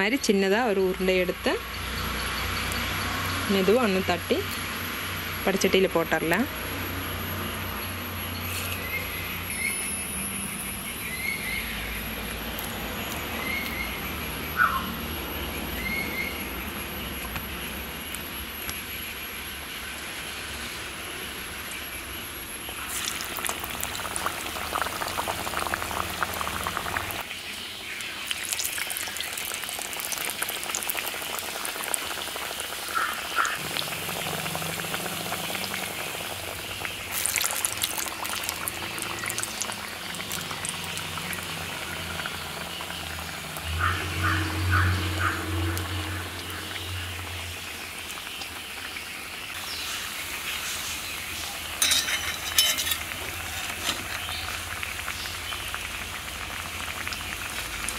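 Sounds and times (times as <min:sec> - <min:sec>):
batter deep-frying in hot oil: 0:00.0 - 0:57.9.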